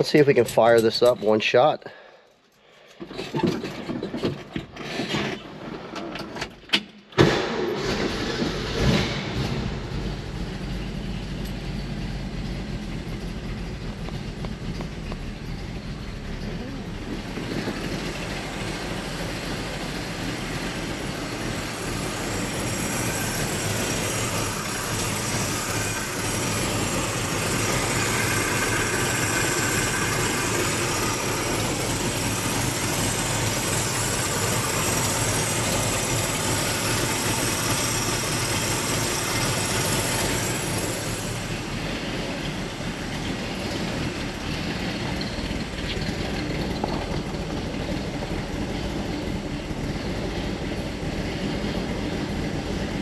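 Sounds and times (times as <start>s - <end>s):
vv eight engine running: 7.8s - 53.0s.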